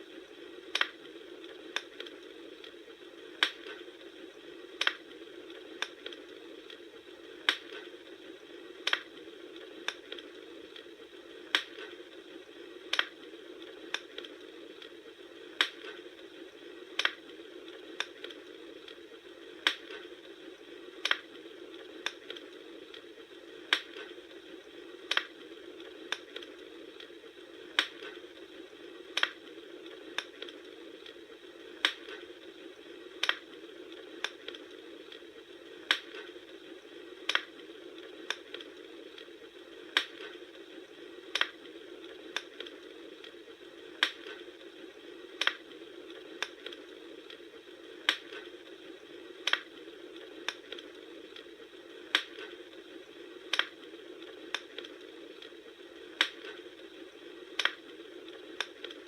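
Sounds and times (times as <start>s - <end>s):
wood fire hissing and crackling: 0.0s - 59.0s.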